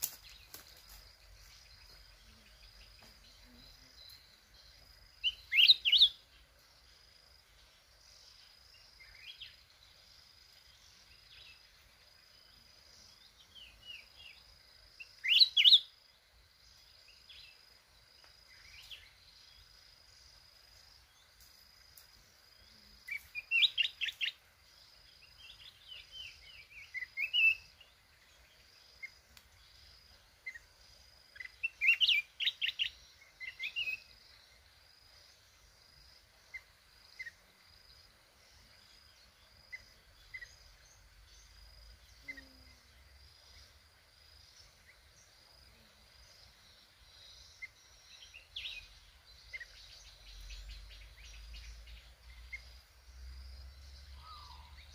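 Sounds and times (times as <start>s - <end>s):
bird chirping song: 0.0s - 54.9s.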